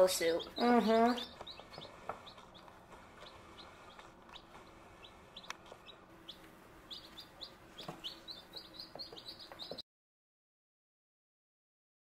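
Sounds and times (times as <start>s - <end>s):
baby chicks peeping: 0.0s - 9.8s.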